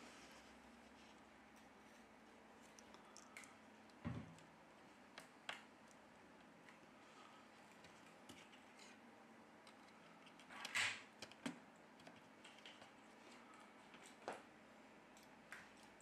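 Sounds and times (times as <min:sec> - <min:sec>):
faint clicks of small parts: 0:02.6 - 0:14.5, 0:15.1 - 0:16.0.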